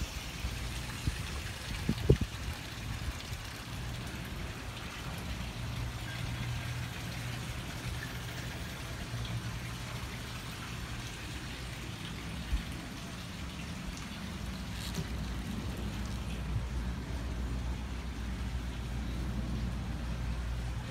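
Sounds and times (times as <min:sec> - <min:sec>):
constant hiss: 0:00.0 - 0:20.9.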